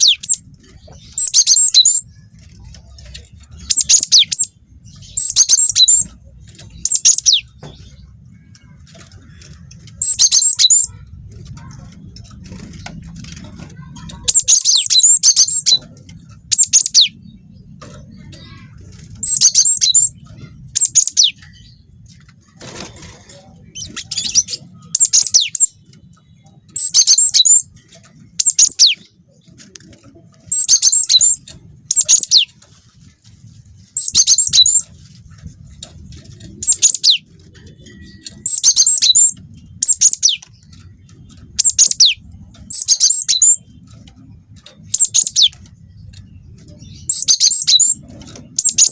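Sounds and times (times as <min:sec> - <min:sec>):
bird singing high-pitched phrases: 0:00.0 - 0:33.1, 0:33.8 - 0:48.9.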